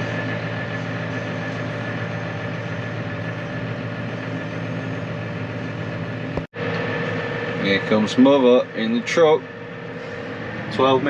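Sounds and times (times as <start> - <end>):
faint steady whine: 0.0 - 11.0
farm machinery engine running: 0.0 - 11.0.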